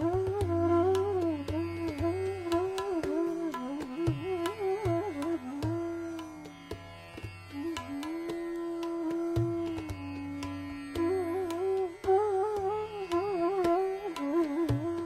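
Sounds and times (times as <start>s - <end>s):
bansuri flute melody: 0.0s - 15.0s.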